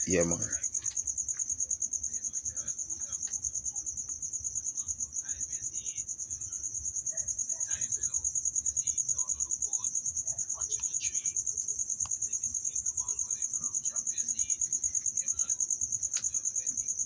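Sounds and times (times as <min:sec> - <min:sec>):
cricket chirping trill: 0:00.0 - 0:17.0.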